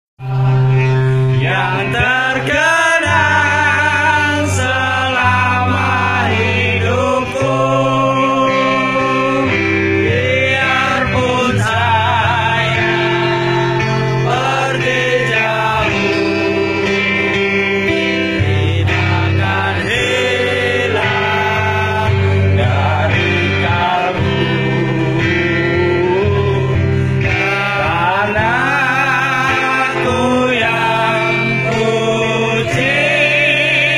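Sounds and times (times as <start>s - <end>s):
acoustic guitar: 0.2s - 33.9s
held bass notes: 0.2s - 33.9s
man singing a slow ballad: 0.2s - 33.9s.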